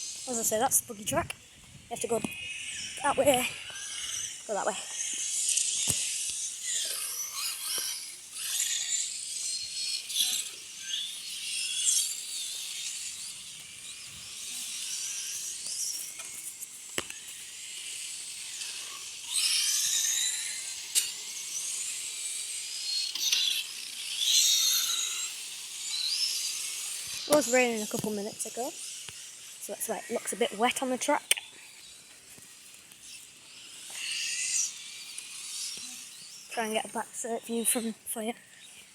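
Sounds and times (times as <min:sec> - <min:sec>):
electric race cars whining: 0:00.0 - 0:38.9.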